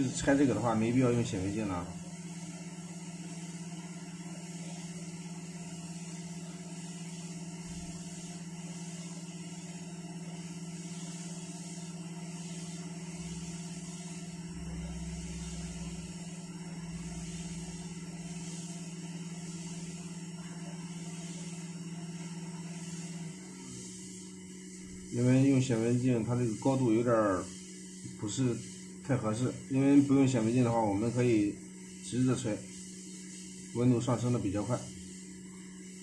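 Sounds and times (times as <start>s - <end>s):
hot-air station blowing: 0.0s - 36.0s.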